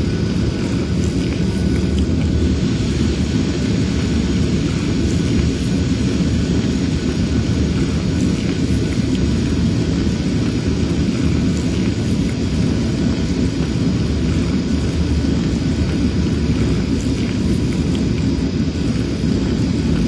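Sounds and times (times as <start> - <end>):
faint steady tones: 0.0 - 20.0
machinery rumbling: 0.0 - 20.0.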